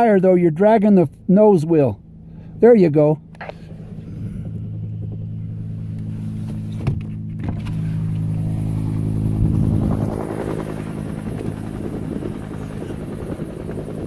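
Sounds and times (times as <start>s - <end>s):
helicopter rotor and engine drone: 0.0s - 14.0s.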